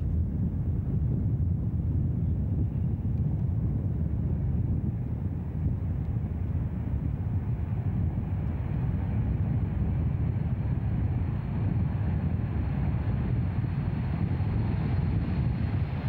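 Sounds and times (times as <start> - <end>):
faint high engine whine: 0.0 - 16.0
jet engines rumbling: 0.0 - 16.0.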